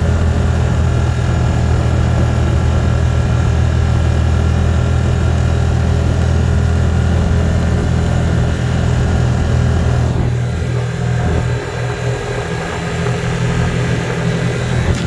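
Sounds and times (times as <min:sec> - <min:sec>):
road noise: 0:00.0 - 0:15.0
vehicle engine drone: 0:00.0 - 0:15.0.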